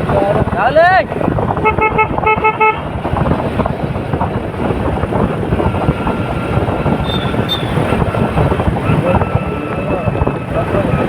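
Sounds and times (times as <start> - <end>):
vehicle rumbling and rattling: 0.0 - 11.0.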